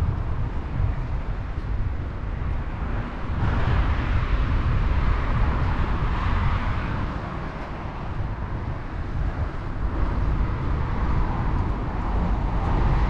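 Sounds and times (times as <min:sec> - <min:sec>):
vehicle tyre noise: 0:00.0 - 0:13.0
wind rumbling on microphone: 0:00.0 - 0:13.0.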